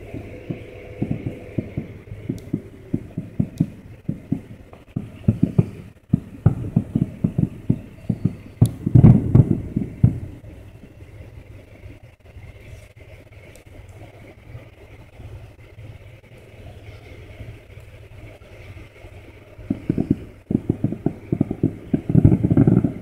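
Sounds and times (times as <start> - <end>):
distant fireworks booms and pops: 0.0 - 12.2, 13.0 - 23.0.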